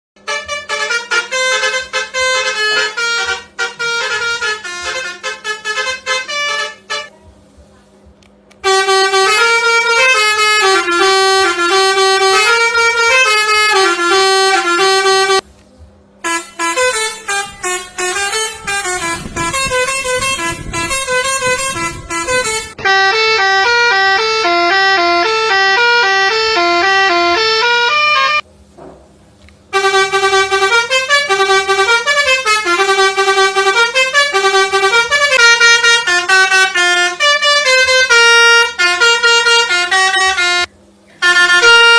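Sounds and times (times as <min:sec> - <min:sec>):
musical air horn playing tunes: 0:00.2 - 0:07.1, 0:08.6 - 0:15.5, 0:16.2 - 0:28.4, 0:29.7 - 0:41.9.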